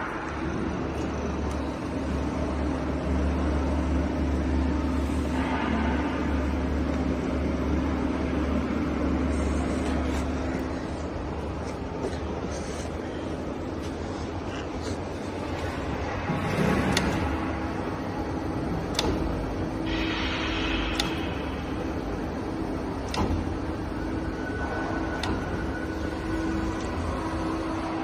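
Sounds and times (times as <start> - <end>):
lathe motors humming: 0.0 - 28.0.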